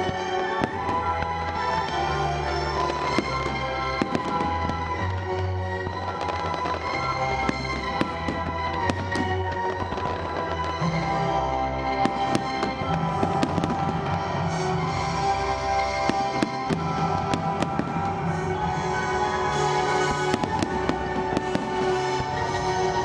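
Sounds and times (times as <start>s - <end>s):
fireworks bursting: 0.0s - 23.0s
music soundtrack: 0.0s - 23.0s.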